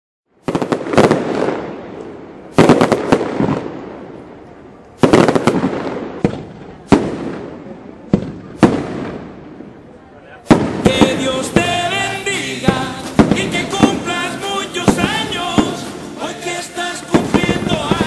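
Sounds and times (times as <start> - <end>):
fireworks banging and crackling: 0.4 - 18.0.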